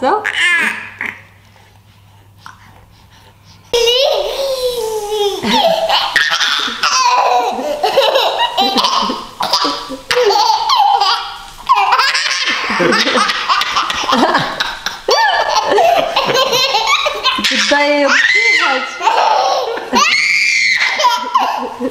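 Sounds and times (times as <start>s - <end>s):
toddler girl laughing: 3.7s - 21.9s.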